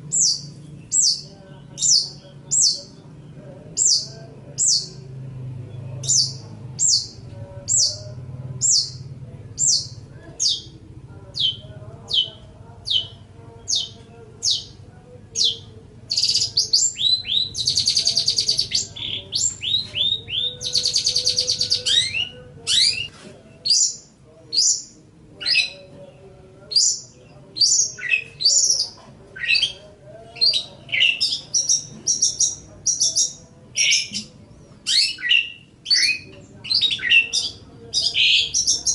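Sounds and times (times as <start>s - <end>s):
shrike singing: 0.0s - 38.9s.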